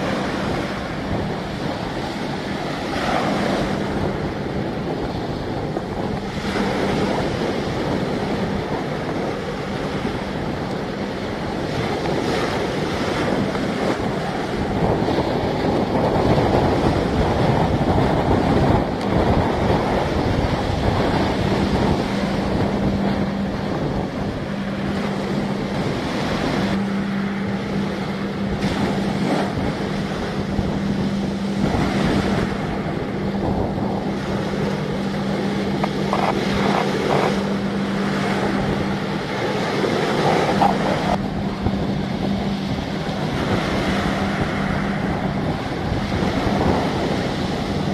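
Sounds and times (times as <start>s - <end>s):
choppy water: 0.0s - 47.9s
steady hum: 0.0s - 47.9s
wind buffeting microphone: 0.0s - 47.9s.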